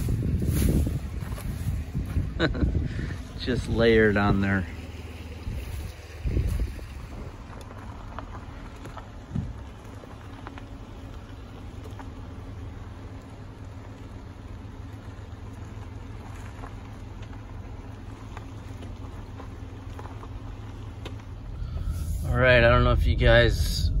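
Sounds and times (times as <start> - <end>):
van engine rumbling: 0.0 - 24.0.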